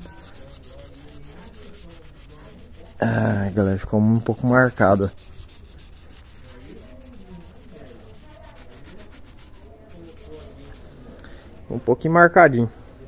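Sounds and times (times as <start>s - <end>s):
cloth scrubbing painted steel: 0.0s - 11.1s.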